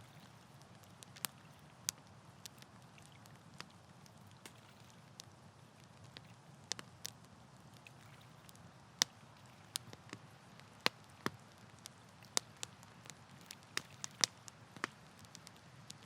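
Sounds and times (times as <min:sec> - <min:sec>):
campfire pops and snaps: 0:00.0 - 0:16.0
low steady fire hiss: 0:00.0 - 0:16.0.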